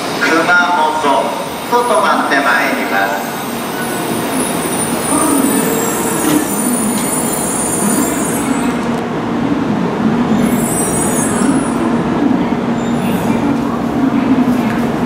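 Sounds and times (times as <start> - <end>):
train rumbling with high whine: 0.0 - 15.0.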